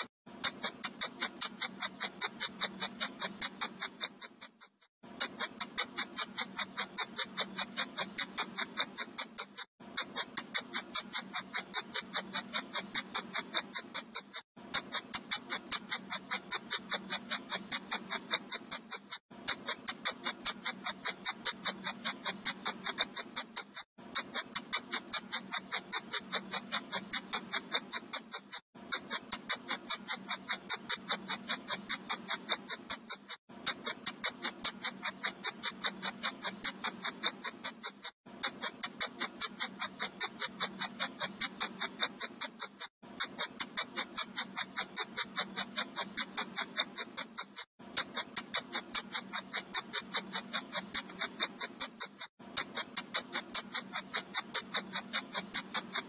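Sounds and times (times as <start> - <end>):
fast high electronic clicks: 0.0 - 56.0.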